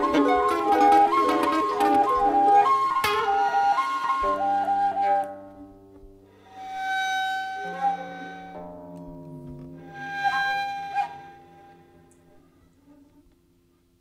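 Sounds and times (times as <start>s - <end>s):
breathy end-blown flute notes: 0.0s - 5.7s, 6.3s - 8.9s, 9.8s - 13.4s
guitar tones: 0.0s - 13.6s
soft violin: 0.0s - 13.6s.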